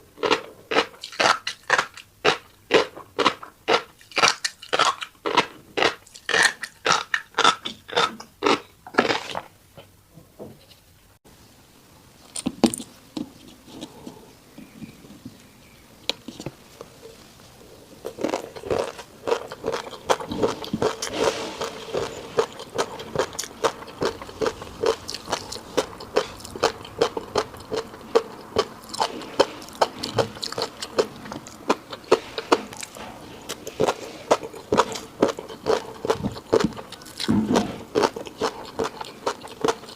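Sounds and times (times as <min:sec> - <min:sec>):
crisp crunching chewing: 0:00.2 - 0:09.5, 0:16.0 - 0:39.9
wet chewing: 0:00.2 - 0:09.5, 0:16.0 - 0:39.9.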